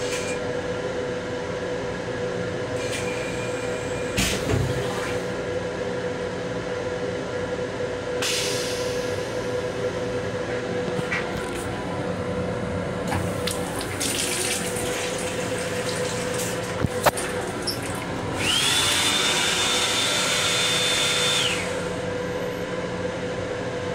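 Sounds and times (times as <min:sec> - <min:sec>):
railcar low hum: 0:00.0 - 0:18.7, 0:21.4 - 0:23.9.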